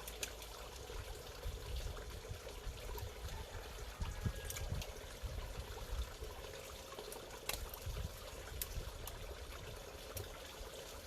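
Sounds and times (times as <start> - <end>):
water bubbling and trickling: 0.0 - 11.0.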